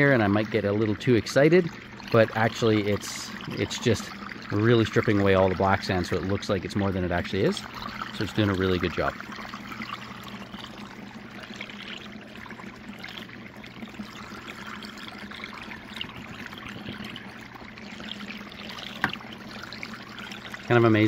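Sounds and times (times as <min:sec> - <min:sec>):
low steady hum: 0:00.0 - 0:21.0
water running down sluice: 0:00.0 - 0:21.0.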